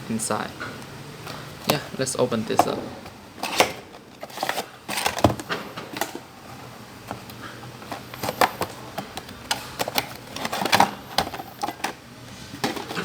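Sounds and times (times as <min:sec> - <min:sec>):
packaging clicks and crinkles: 0:01.3 - 0:13.0.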